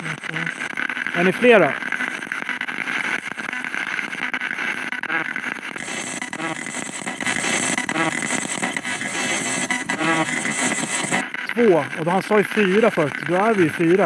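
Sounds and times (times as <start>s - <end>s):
snatches of broadcast voice: 0.0s - 2.3s, 4.6s - 14.0s
radio static sweeping with clicks: 0.0s - 14.0s.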